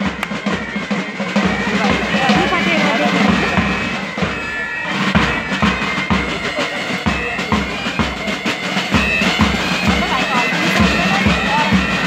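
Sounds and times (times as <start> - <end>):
bagpipes drone and melody: 0.0 - 12.0
drums: 0.0 - 12.0.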